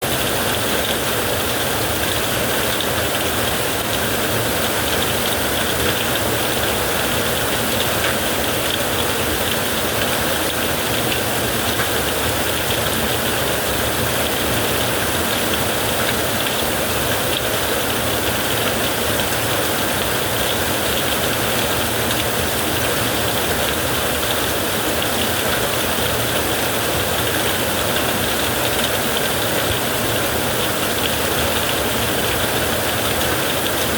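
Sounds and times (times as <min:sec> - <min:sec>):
heavy rain on a tent: 0:00.0 - 0:33.9.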